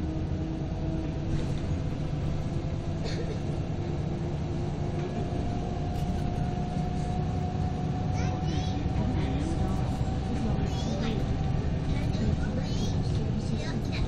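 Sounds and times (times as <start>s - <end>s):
diesel engine rumble: 0.0s - 14.0s.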